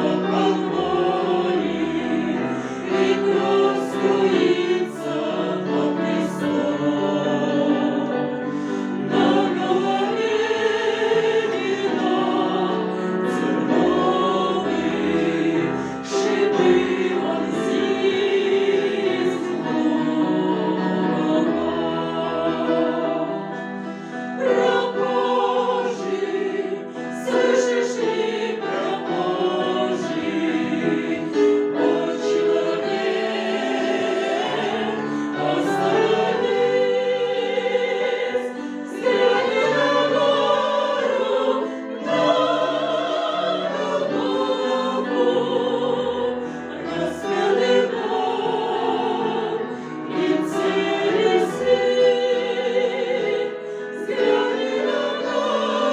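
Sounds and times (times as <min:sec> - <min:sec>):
choir singing: 0:00.0 - 0:55.9.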